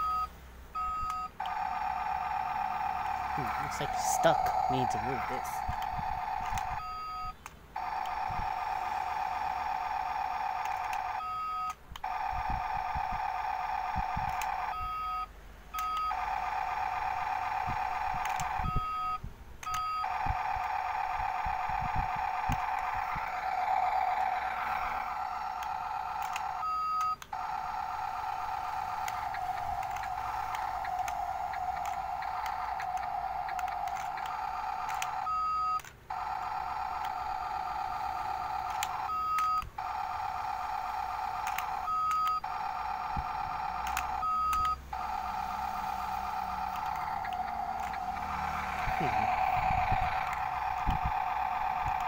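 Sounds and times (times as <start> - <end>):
toy truck electronic hum: 0.0 - 52.0.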